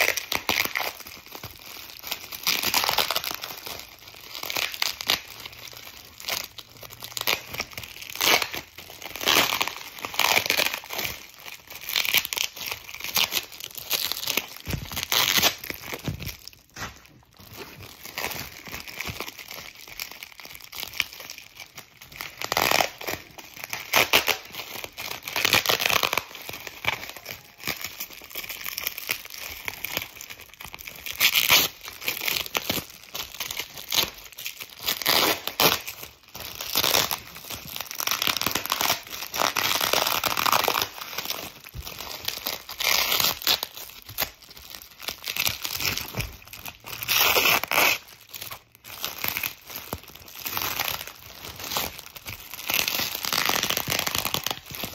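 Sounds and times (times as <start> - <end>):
plastic wrap crinkling and tearing: 0.0 - 54.9.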